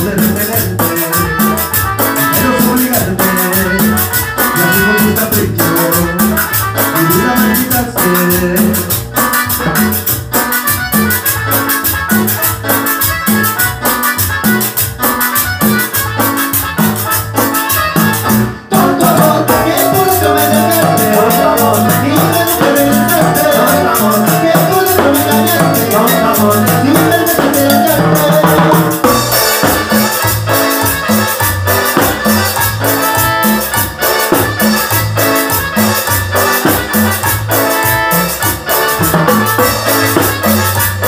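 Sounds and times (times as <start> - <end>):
latin dance band playing: 0.0 - 41.0
maracas shaking: 0.0 - 41.0.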